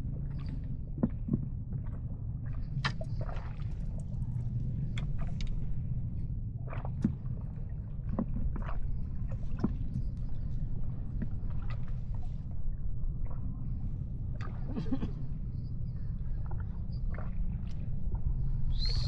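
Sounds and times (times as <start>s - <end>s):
low rumble: 0.0s - 19.0s
water lapping and splashing: 0.0s - 19.0s.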